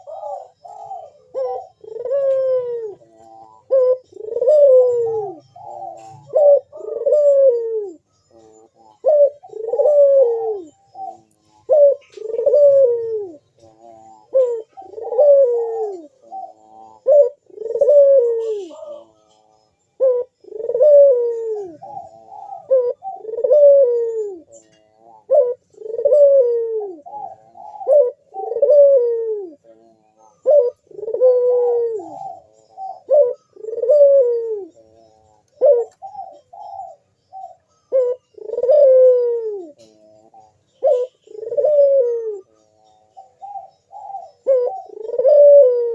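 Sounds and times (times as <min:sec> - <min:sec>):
dove cooing: 0:00.0 - 0:45.9.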